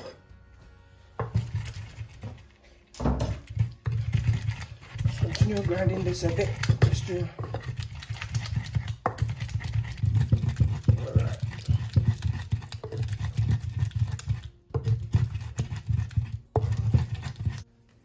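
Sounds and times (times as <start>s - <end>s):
wooden pestle grinding in clay bowl: 1.2s - 17.7s.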